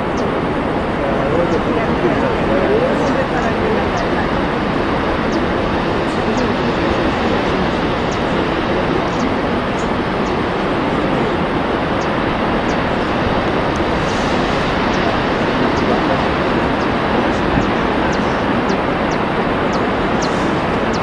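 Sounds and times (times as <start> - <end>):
wind and sea rushing: 0.0 - 21.0.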